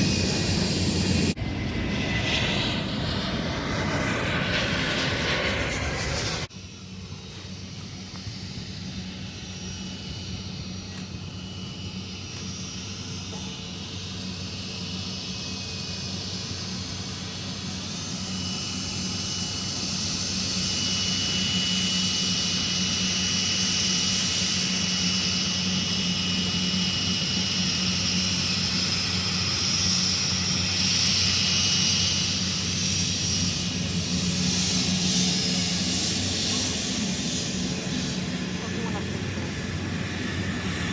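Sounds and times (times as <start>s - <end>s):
high engine whine: 0.0s - 40.9s
jet engines roaring: 0.0s - 40.9s.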